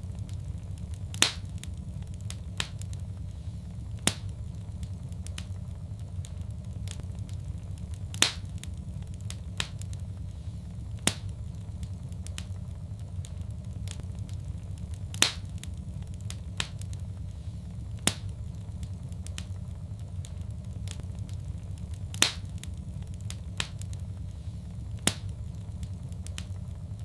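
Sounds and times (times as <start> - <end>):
fire crackling and popping: 0.0 - 27.0
low rumble of burning: 0.0 - 27.0.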